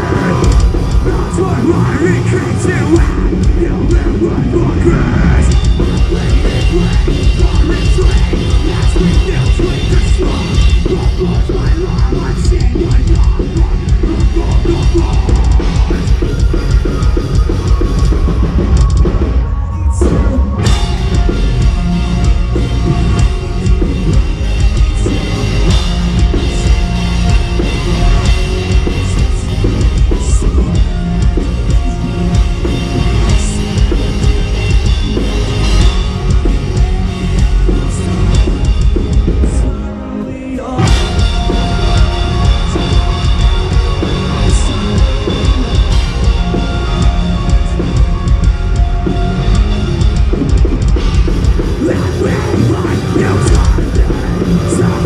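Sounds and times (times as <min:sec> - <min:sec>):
drum kit: 0:00.0 - 0:39.8, 0:40.6 - 0:55.0
heavy metal band playing: 0:00.0 - 0:55.0.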